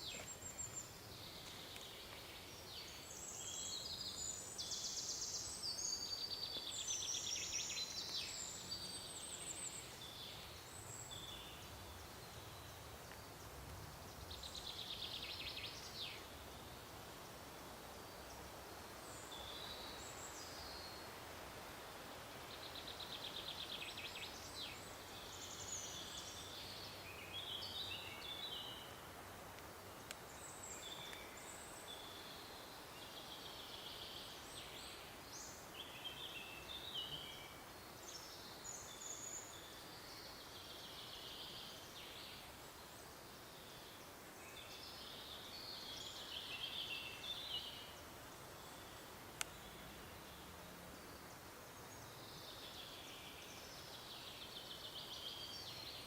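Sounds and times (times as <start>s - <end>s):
faint steady hiss: 0.0s - 56.0s
songbirds chirping: 0.0s - 56.0s.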